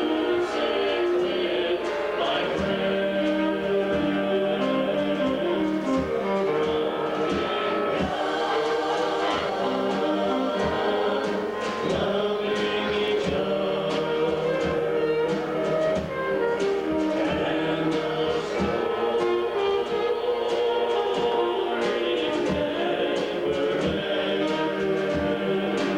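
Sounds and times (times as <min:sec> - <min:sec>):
instrumental accompaniment: 0:00.0 - 0:25.9
vocal group singing in harmony: 0:00.0 - 0:25.9.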